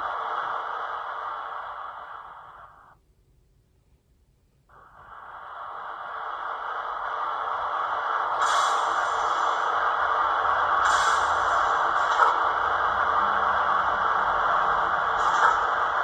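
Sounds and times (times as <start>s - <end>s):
high hiss: 0.0s - 3.0s, 4.7s - 16.0s
rushing noise from small speaker: 0.0s - 3.0s, 4.7s - 16.0s.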